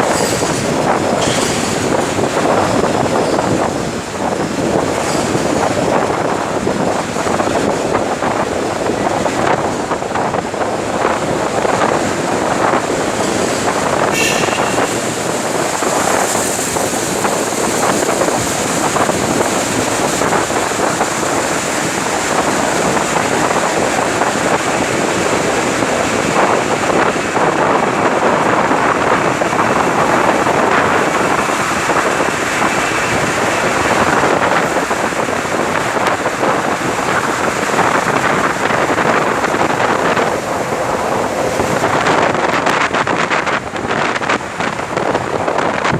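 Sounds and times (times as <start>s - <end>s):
moving vehicle running noise: 0.0s - 45.9s
wind buffeting microphone: 0.0s - 45.9s.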